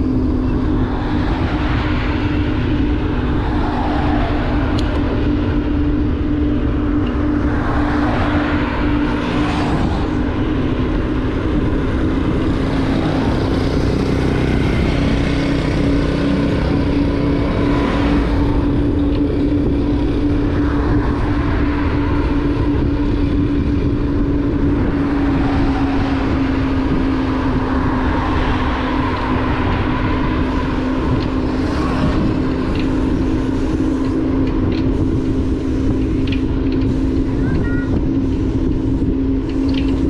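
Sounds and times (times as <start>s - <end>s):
motorbike engine cruising: 0.0s - 40.0s
wind rumbling on microphone: 0.0s - 40.0s.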